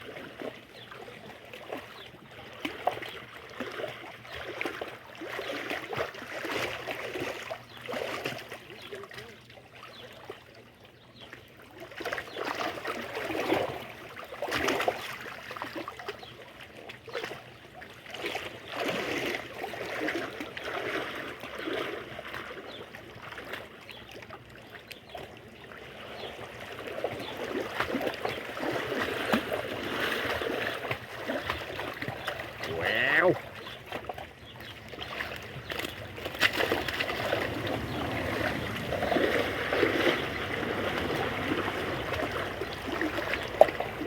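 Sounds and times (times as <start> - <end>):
water lapping and splashing: 0.0 - 44.0.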